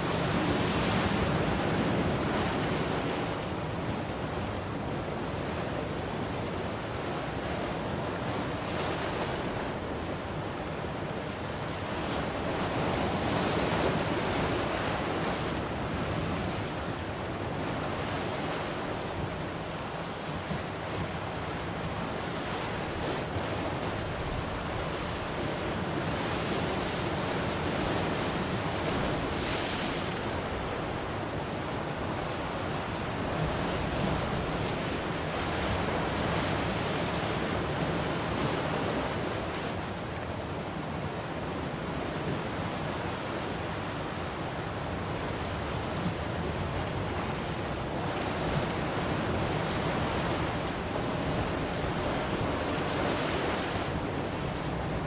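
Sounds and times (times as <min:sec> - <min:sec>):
ocean waves washing on shore: 0:00.0 - 0:55.0.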